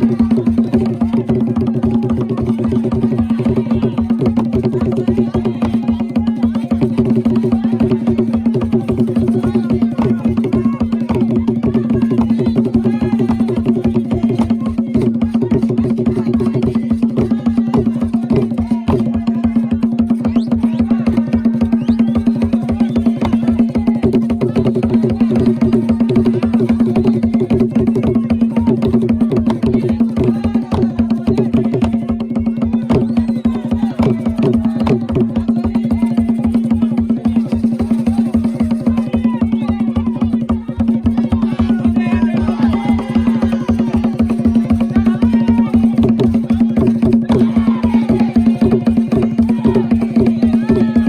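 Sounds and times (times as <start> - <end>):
drums playing fast rhythm: 0.0 - 51.0
voices: 0.0 - 51.0.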